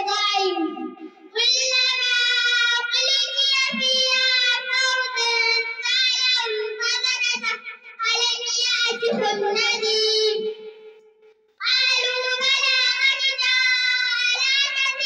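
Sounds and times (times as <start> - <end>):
girl chanting into a microphone: 0.0 - 10.8, 11.6 - 15.0.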